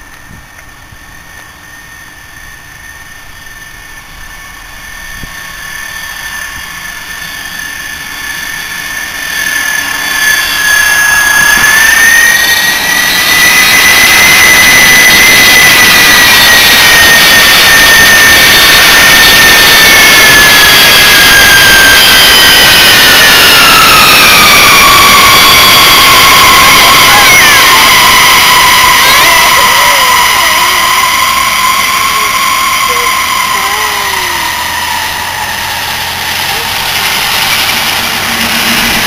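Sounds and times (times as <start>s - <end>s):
high steady whine: 0.0s - 39.0s
jet engines on approach: 0.0s - 39.0s.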